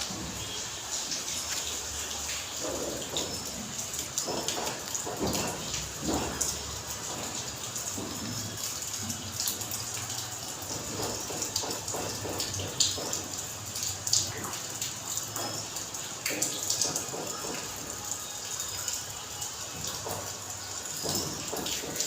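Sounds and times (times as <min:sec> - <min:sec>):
rain falling: 0:00.0 - 0:22.0
water drips and splashes: 0:00.0 - 0:22.0.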